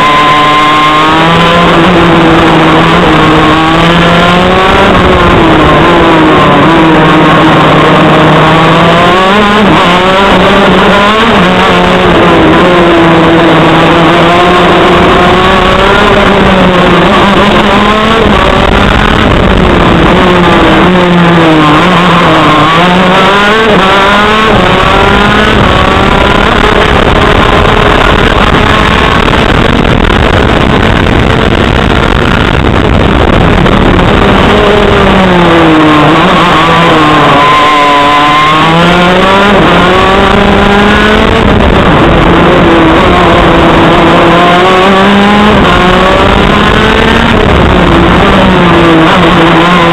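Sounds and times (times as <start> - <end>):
kart engine revving: 0.0 - 49.9.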